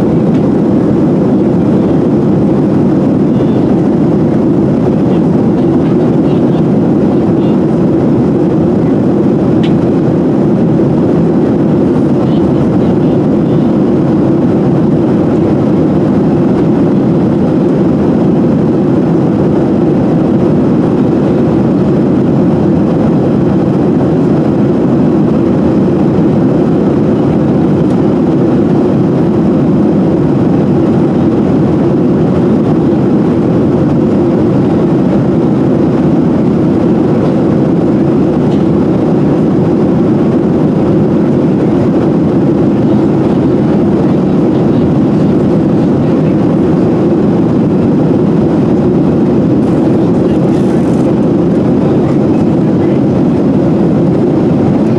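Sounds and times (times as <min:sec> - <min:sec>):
airplane cabin drone: 0:00.0 - 0:54.9.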